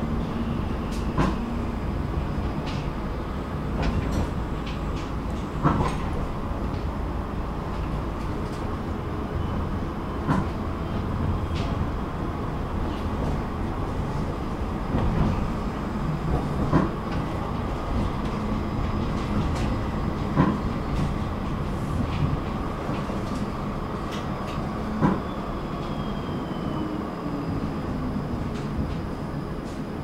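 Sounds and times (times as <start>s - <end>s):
tram wheels rumbling on rails: 0.0s - 30.0s.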